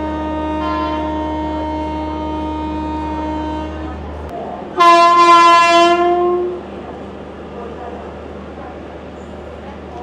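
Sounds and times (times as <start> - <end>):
train electrical drone: 0.0 - 10.0.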